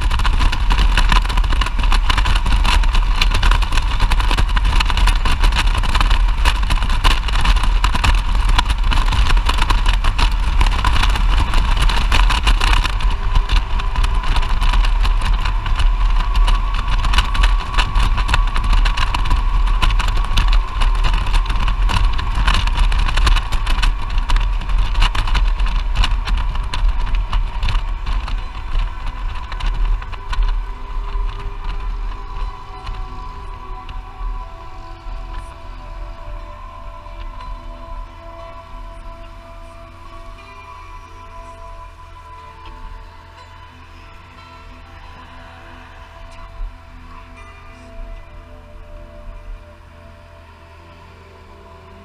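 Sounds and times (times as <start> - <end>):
faint steady whine: 0.0 - 52.0
motorcycle engine rumble: 0.0 - 52.0
wind and road noise: 0.0 - 52.0.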